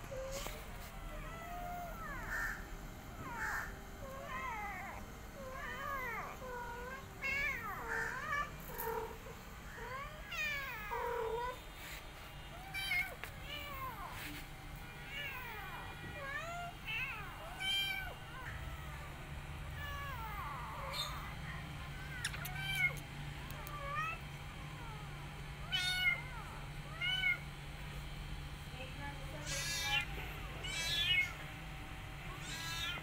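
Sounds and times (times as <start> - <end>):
cats meowing: 0.1 - 27.5, 29.4 - 31.4, 32.3 - 33.0.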